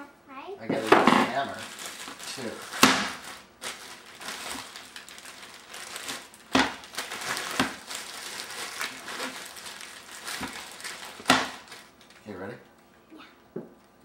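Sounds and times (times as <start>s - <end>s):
plastic bag crinkling: 0.8s - 12.3s.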